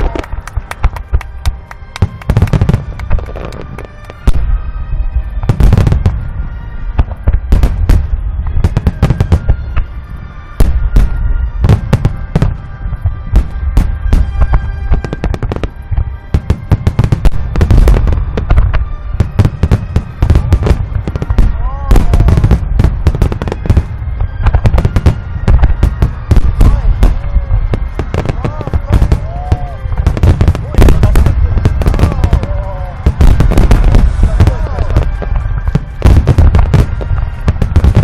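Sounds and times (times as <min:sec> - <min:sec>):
fireworks booms and cracks: 0:00.0 - 0:38.0
music: 0:00.0 - 0:38.0.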